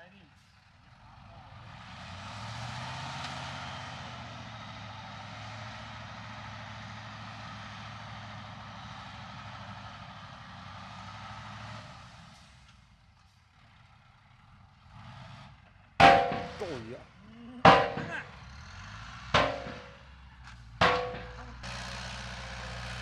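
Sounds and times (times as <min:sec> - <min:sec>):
diesel machinery engine hum: 0:00.0 - 0:23.0.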